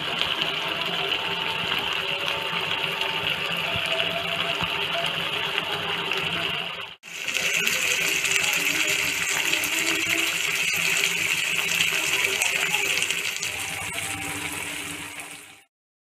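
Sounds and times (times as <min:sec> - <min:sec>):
curry bubbling in a pan: 0:00.0 - 0:15.7.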